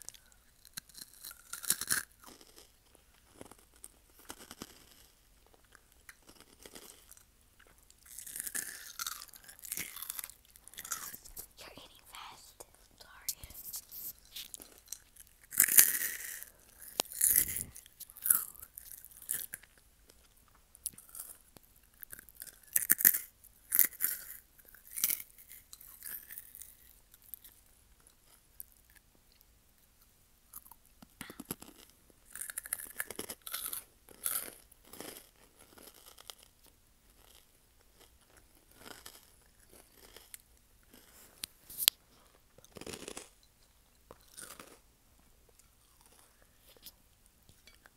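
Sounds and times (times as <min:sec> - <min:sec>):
chewing crunchy snack: 0:00.0 - 0:47.9.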